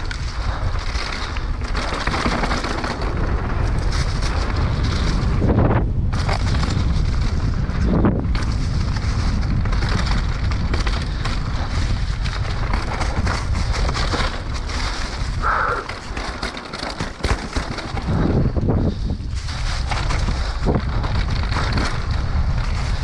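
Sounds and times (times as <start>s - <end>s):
mountain bike rattling on trail: 0.0s - 23.0s
wind buffeting microphone: 0.0s - 23.0s.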